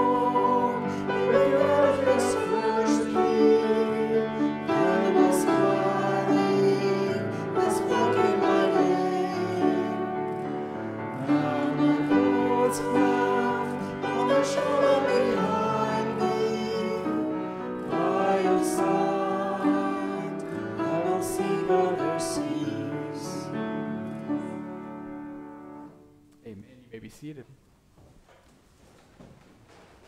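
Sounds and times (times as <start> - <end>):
congregation singing a hymn: 0.0 - 26.0
piano accompaniment: 0.0 - 26.3.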